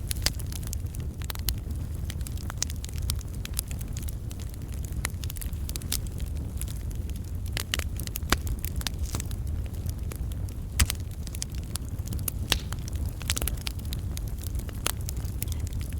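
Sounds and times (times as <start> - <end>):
logs crackling and popping: 0.0 - 15.9
low rumble of flame: 0.0 - 15.9.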